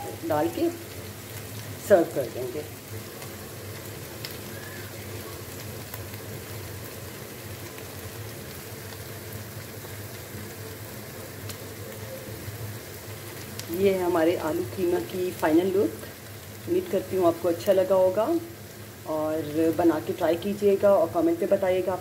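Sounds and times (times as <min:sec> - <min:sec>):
curry sizzling and bubbling in a pot: 0:00.0 - 0:22.0.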